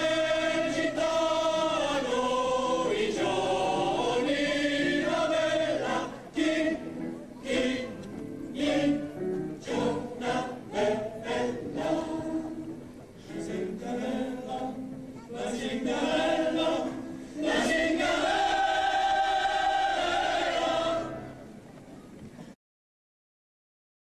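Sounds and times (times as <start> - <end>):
mixed choir singing: 0.0 - 21.5.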